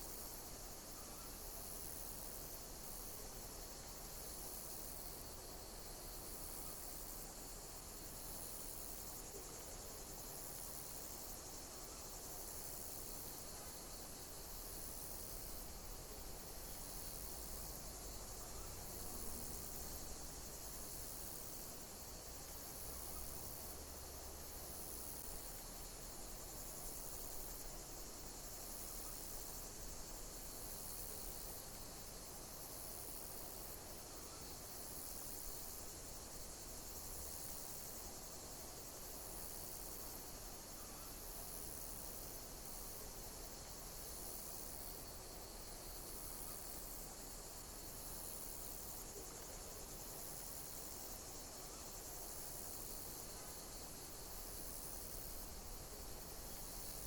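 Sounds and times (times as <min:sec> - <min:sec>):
insects chirping chorus: 0:00.0 - 0:57.0
steady insect hiss: 0:00.0 - 0:57.0.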